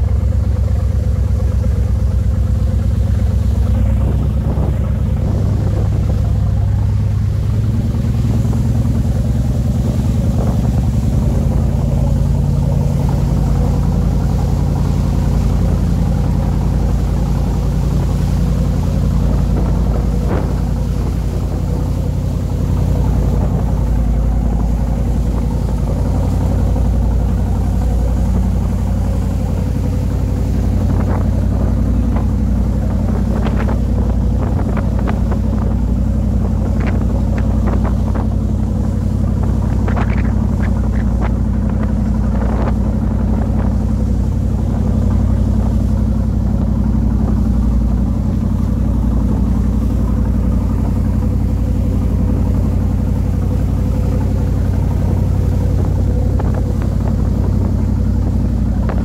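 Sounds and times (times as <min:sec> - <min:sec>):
boat engine droning: 0:00.0 - 0:59.0
water rushing: 0:00.0 - 0:59.0.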